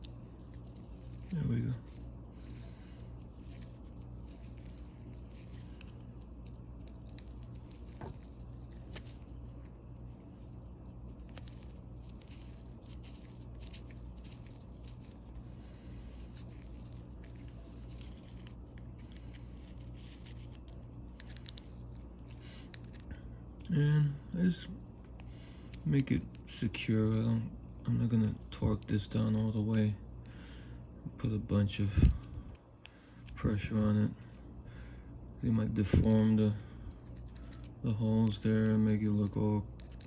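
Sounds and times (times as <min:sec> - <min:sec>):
low hum: 0:00.0 - 0:40.0.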